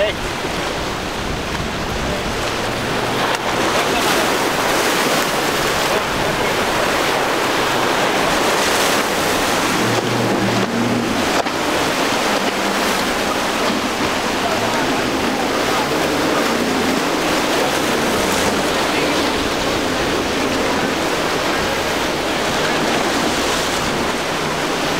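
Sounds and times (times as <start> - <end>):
boat outboard engines: 0.0 - 24.9
surf and wake water rushing: 0.0 - 24.9
wind on microphone: 0.0 - 24.9.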